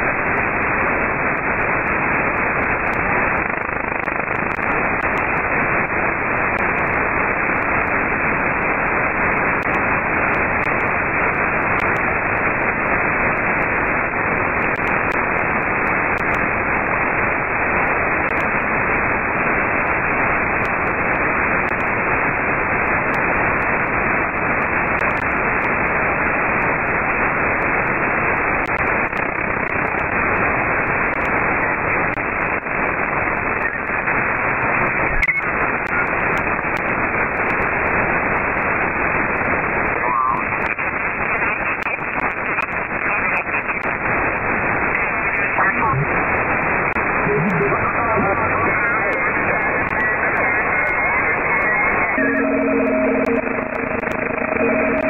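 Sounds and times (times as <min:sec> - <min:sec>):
radio static hiss: 0:00.0 - 0:55.0.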